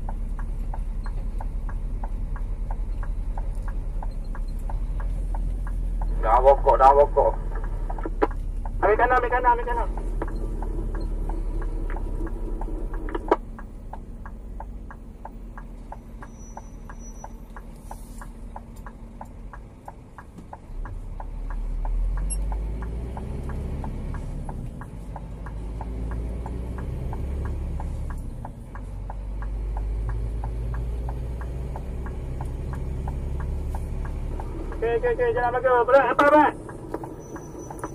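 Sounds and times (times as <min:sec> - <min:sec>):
truck engine running: 0:00.0 - 0:37.9
turn signal ticking: 0:00.0 - 0:37.9.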